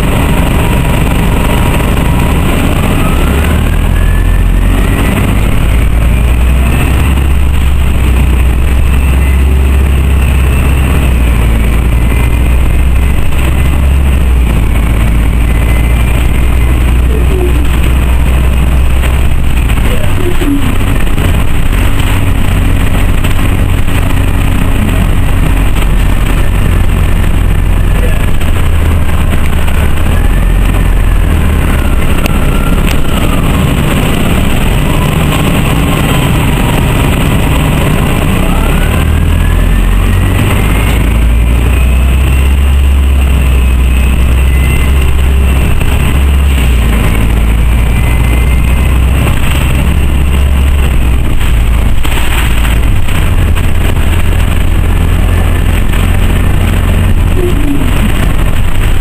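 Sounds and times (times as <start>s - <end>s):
bus engine rumble: 0.0s - 59.0s
drivetrain whine: 0.0s - 59.0s.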